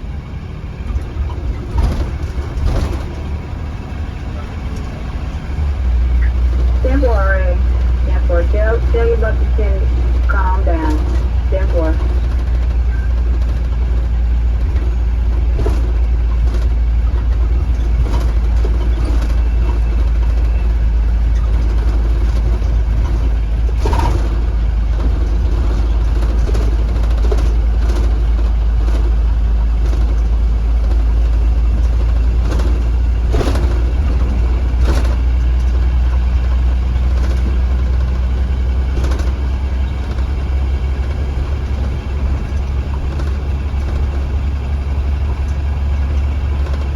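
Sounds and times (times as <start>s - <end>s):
knocks and rattles from bus body: 0.0s - 8.0s, 9.9s - 46.9s
bus engine rumbling: 0.0s - 46.9s.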